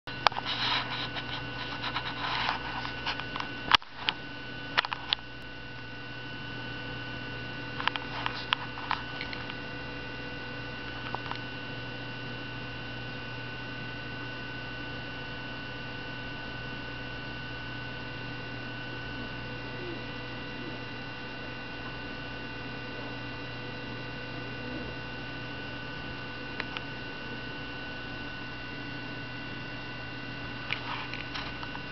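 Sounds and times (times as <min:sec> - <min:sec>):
steady hum: 0:00.1 - 0:31.9.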